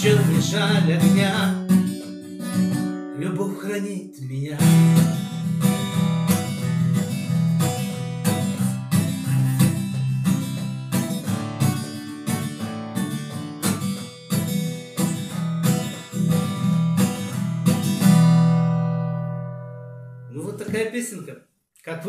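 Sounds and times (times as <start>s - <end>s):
acoustic guitar strumming: 0.0s - 20.9s.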